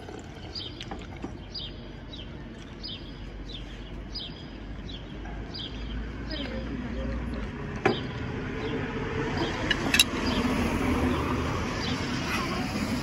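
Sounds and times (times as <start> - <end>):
hum of passing cars: 0.1 - 13.0.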